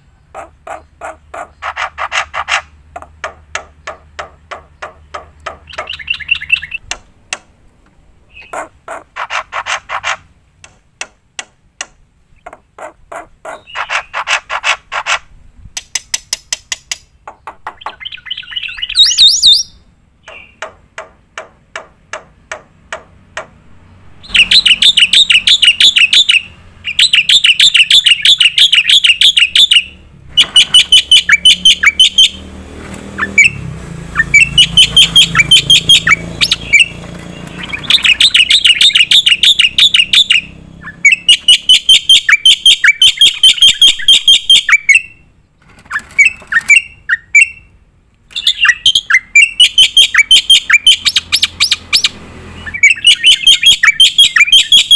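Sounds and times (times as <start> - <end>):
starling singing: 0.0 - 7.0, 8.2 - 10.3, 12.5 - 15.2, 17.3 - 21.1, 22.4 - 45.3, 45.9 - 47.7, 48.3 - 54.9.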